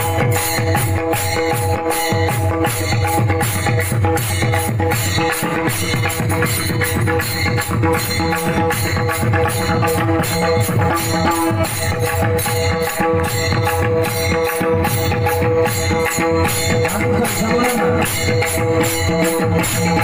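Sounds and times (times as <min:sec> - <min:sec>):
chant-like devotional song: 0:00.0 - 0:20.0
jingling percussion beat: 0:00.0 - 0:20.0.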